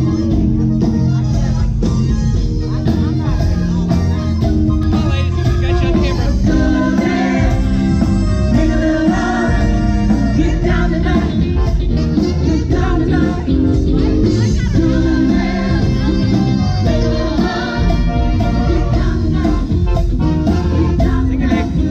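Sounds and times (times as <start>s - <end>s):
live band playing: 0.0s - 21.9s
person singing: 0.0s - 21.9s.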